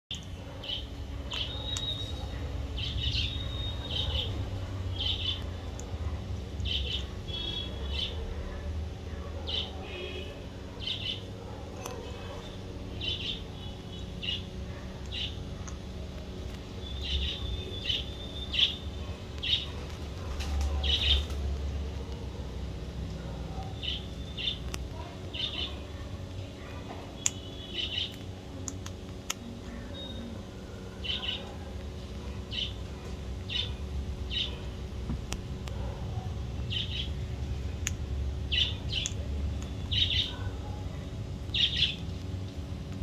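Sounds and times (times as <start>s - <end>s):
birds chirping: 0.1s - 43.0s.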